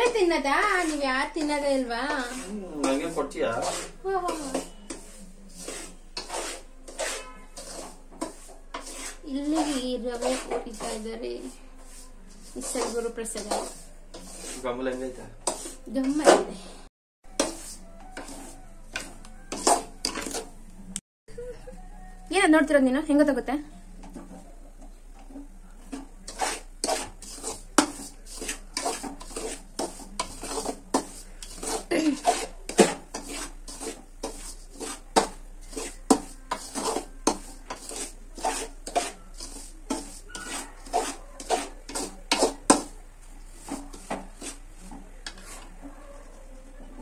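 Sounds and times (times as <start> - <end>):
metal spoon scraping metal pan: 0.0 - 20.6, 24.0 - 47.0.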